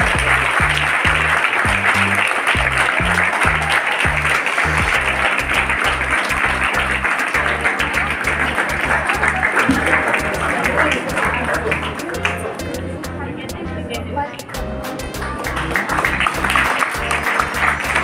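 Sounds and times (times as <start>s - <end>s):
audience applauding: 0.0s - 12.7s, 14.4s - 18.0s
music with rhythmic bass: 0.0s - 18.0s.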